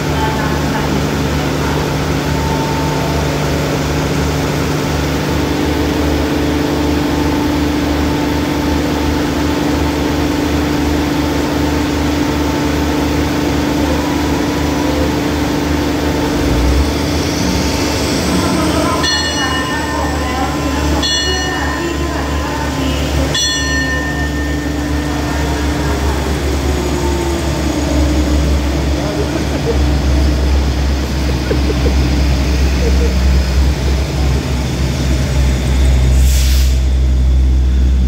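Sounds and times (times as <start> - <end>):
train diesel engine idling: 0.0 - 38.0.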